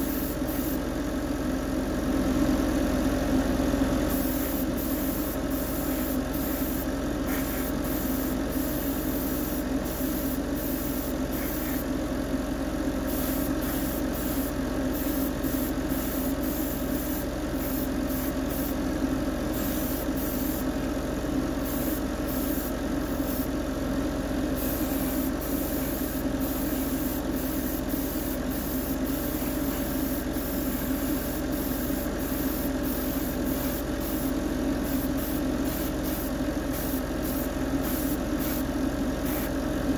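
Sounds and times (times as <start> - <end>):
airbrush spraying hiss: 0.0 - 0.9, 4.1 - 11.9, 13.0 - 18.8, 19.5 - 20.7, 21.6 - 23.5, 24.6 - 39.6
extractor fan and compressor hum: 0.0 - 39.9.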